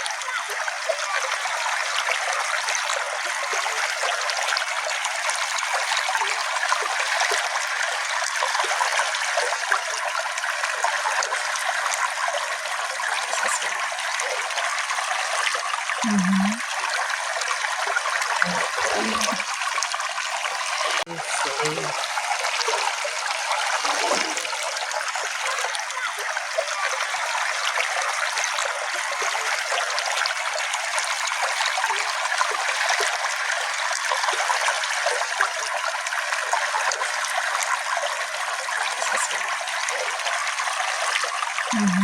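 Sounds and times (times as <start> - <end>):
brook trickling: 0.0 - 42.0.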